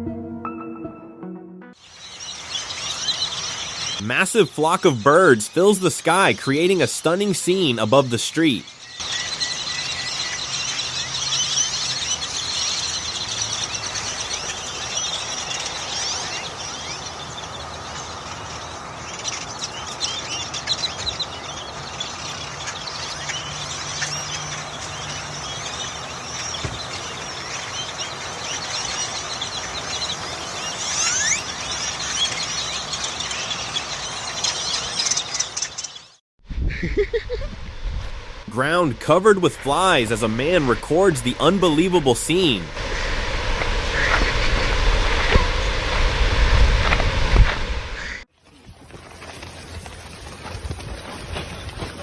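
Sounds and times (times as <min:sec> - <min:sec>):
flock of birds chirping: 0:01.8 - 0:52.0.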